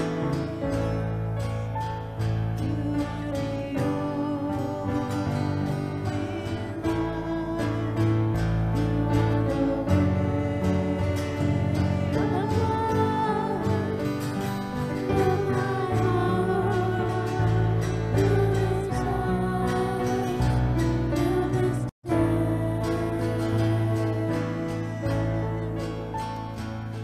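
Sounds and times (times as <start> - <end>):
acoustic guitar: 0.0 - 27.0
person singing slow melody: 0.0 - 27.0
steady bass notes: 0.0 - 27.0.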